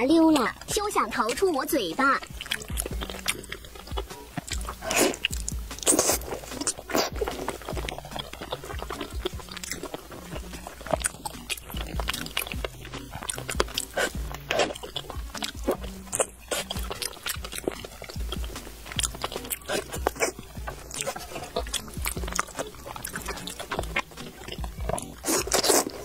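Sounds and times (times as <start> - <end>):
soft background music: 0.0 - 26.0
wet chewing smacks and clicks: 0.0 - 26.0.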